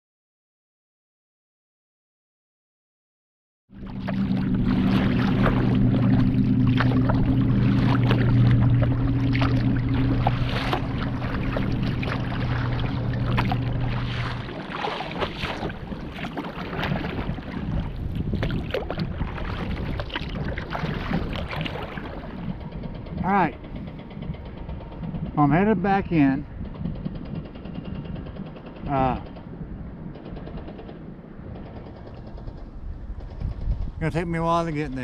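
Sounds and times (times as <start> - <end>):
low hum: 3.7 - 35.0
water slapping against kayak hull: 3.8 - 34.8
wind on microphone: 3.8 - 35.0.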